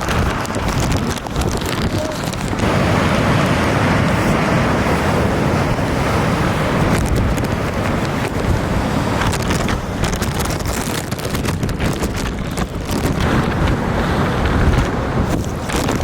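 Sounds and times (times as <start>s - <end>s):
surf crashing ashore: 0.0s - 16.0s
wind buffeting microphone: 0.0s - 16.0s.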